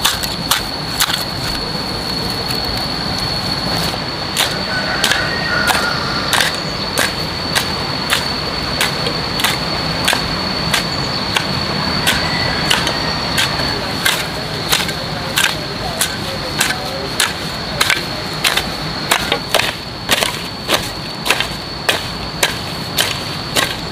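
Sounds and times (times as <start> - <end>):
high steady whine: 0.0 - 23.9.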